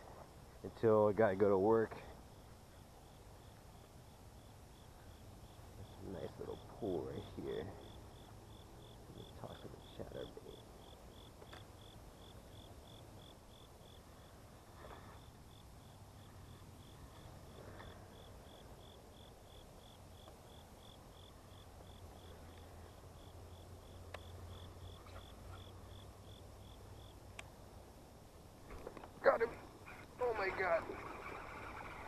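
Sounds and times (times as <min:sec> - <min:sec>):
insect chirping: 0:00.0 - 0:32.0.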